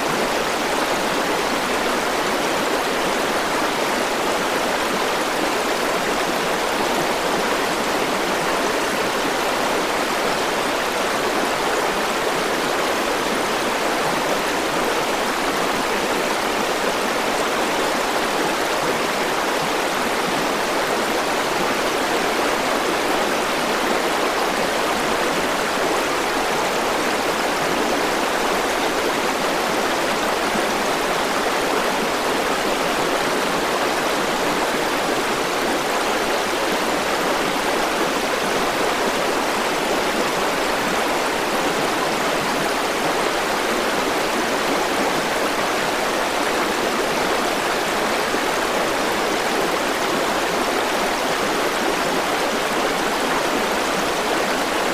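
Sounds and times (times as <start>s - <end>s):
river water rushing over rocks: 0.0s - 54.9s.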